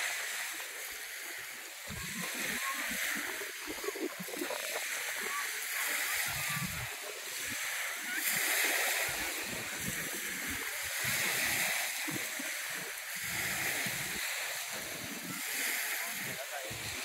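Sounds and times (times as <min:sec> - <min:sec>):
lake waves lapping on sand: 0:00.0 - 0:17.0.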